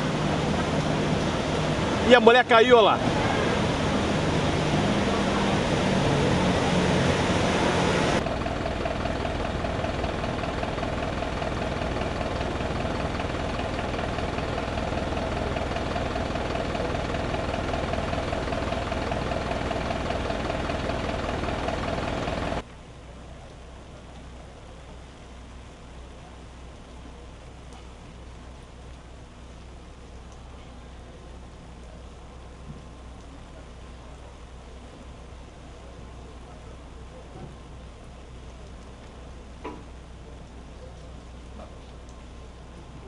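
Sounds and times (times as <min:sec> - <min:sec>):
floodwater rushing and churning: 0:00.0 - 0:43.0
rain: 0:00.0 - 0:43.0
truck engine running: 0:00.0 - 0:43.0
vehicle engine idling: 0:00.0 - 0:43.0.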